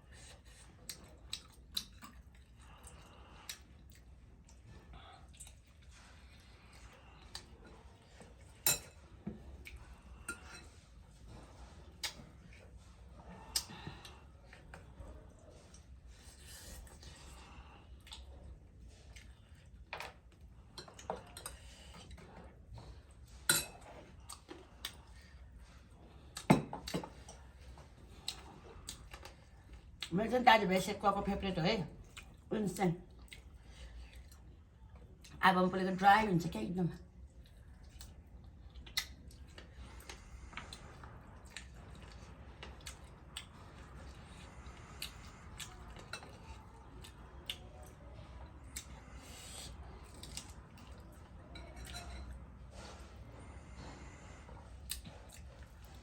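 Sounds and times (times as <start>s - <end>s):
wet chewing noises: 0.0s - 30.2s, 31.9s - 35.4s, 37.1s - 56.0s.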